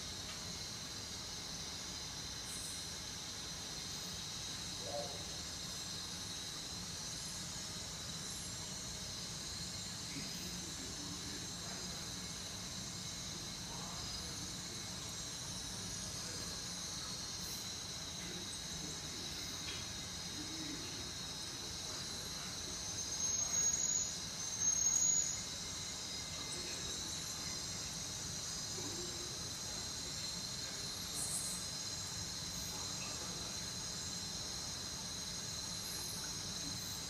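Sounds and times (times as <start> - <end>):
chorus of chirping insects: 0.0 - 37.0.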